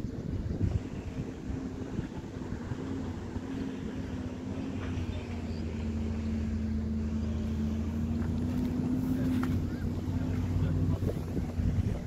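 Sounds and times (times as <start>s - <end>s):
low engine-like hum: 0.0s - 12.0s
outdoor background noise: 0.0s - 12.0s.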